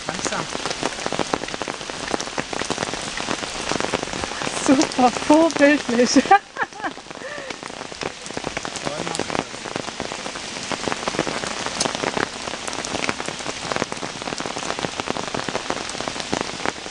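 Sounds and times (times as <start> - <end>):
sharp raindrop hits: 0.0 - 16.9
steady rain falling: 0.0 - 16.9.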